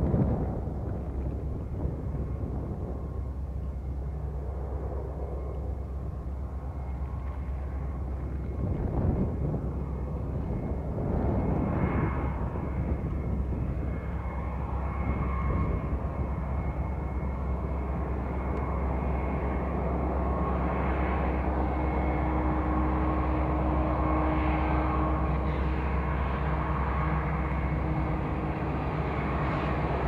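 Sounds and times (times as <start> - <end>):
distant diesel locomotives droning: 0.0 - 30.0
held whining tones: 0.0 - 30.0.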